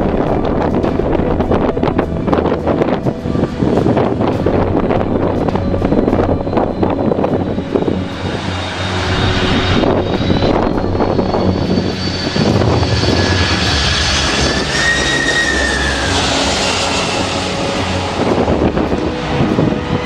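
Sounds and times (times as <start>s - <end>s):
jet engine rush: 0.0s - 20.0s
jet engine whine: 0.0s - 20.0s
wind on microphone: 0.0s - 20.0s.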